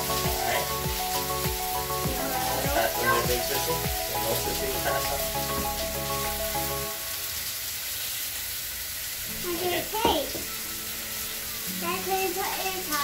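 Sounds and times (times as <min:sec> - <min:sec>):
background music: 0:00.0 - 0:07.5, 0:09.3 - 0:13.0
steady hiss: 0:00.0 - 0:13.0.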